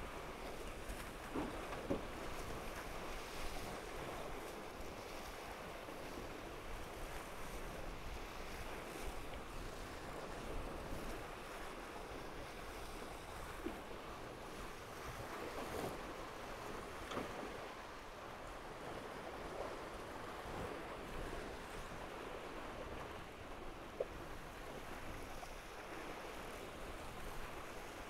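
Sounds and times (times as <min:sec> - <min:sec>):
water rushing along hulls: 0:00.0 - 0:28.0.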